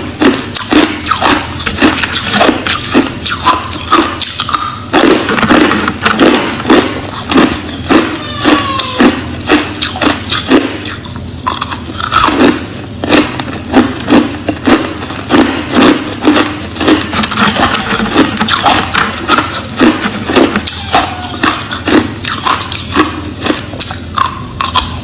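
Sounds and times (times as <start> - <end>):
ice being chewed: 0.1 - 25.0.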